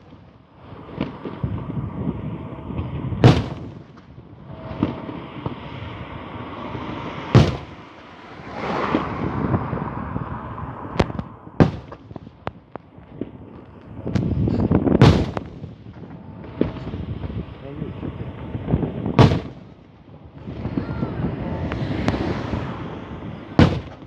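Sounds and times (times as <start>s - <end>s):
loud firework bangs: 0.0s - 24.0s
rumble and crackle of fireworks: 0.0s - 24.0s.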